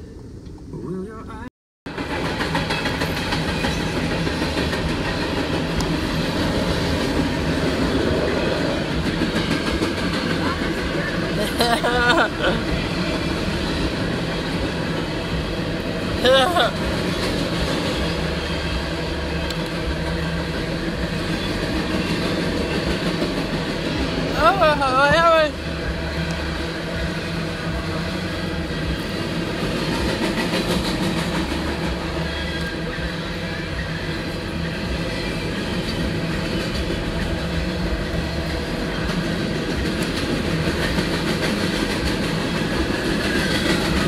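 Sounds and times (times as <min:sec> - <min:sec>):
train wheels rumbling on rails: 0:01.9 - 0:44.0.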